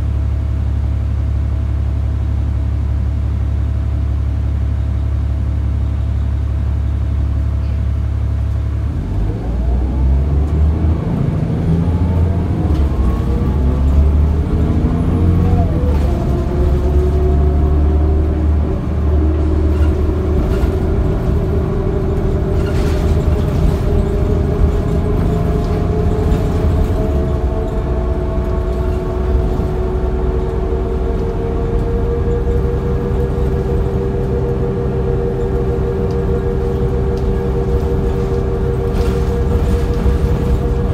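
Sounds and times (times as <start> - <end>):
bus engine rumble: 0.0 - 40.9
drivetrain whine: 5.1 - 40.9.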